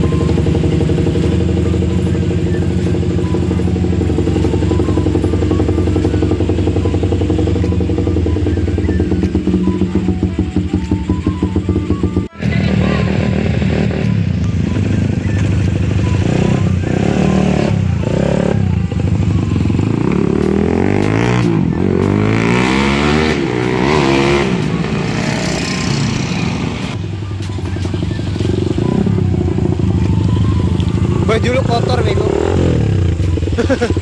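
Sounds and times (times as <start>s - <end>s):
motorcycle engine revving and idling: 0.0s - 34.0s.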